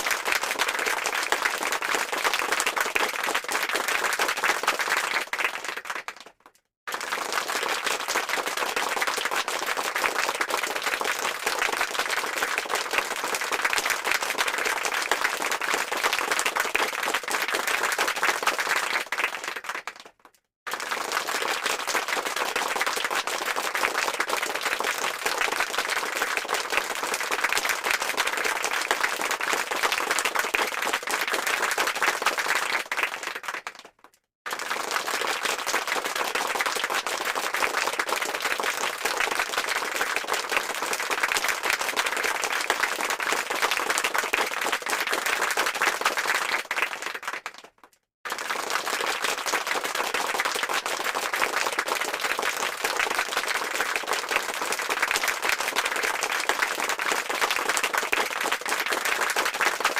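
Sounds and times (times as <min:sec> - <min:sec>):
crowd applause: 0:00.0 - 0:20.1, 0:20.7 - 0:33.9, 0:34.5 - 0:47.7, 0:48.3 - 0:59.9.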